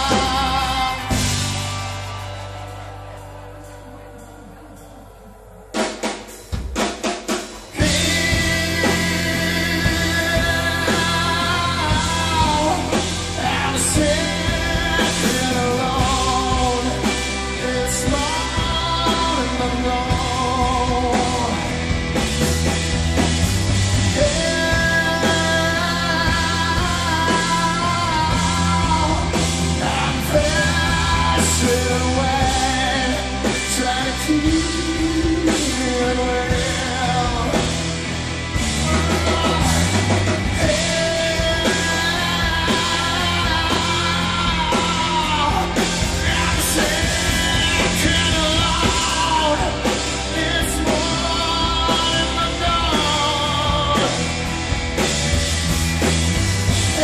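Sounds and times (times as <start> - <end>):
man singing: 0.0 - 1.9, 5.8 - 22.2, 23.7 - 55.1, 56.7 - 57.0
live rock band: 0.0 - 57.0.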